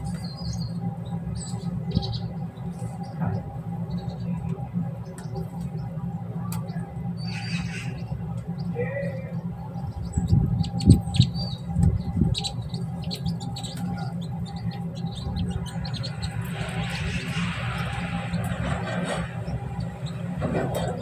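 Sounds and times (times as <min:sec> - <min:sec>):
low rumbles: 0:00.0 - 0:21.0
small birds chirping: 0:00.0 - 0:21.0
steady low hum: 0:00.0 - 0:21.0.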